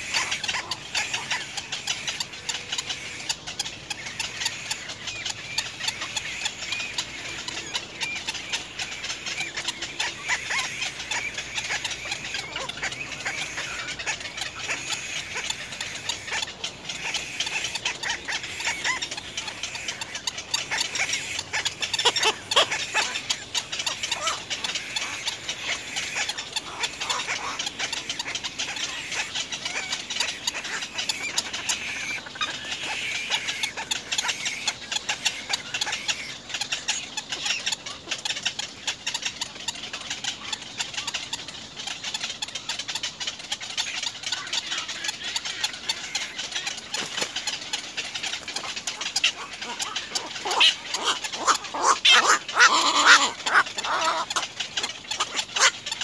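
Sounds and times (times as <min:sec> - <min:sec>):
birds clicking and chattering: 0:00.0 - 0:56.0.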